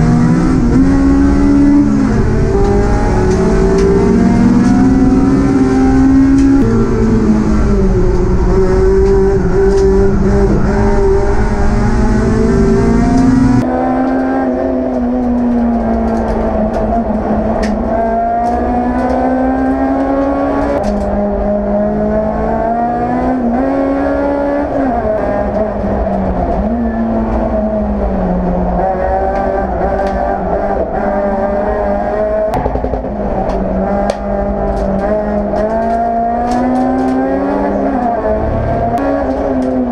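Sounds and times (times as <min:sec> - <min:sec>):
race car engine at high revs: 0:00.0 - 0:39.9
second race car engine: 0:00.0 - 0:39.9.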